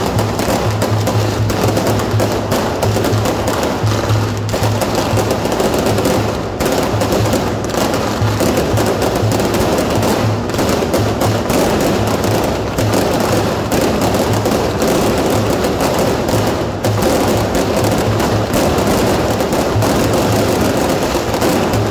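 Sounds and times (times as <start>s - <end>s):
fireworks crackling and popping: 0.0s - 21.9s
music with low beat: 0.0s - 21.9s.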